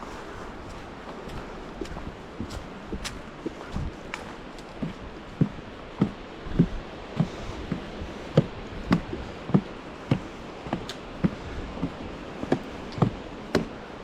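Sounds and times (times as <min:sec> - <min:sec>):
footsteps on a trail: 0:00.0 - 0:14.0.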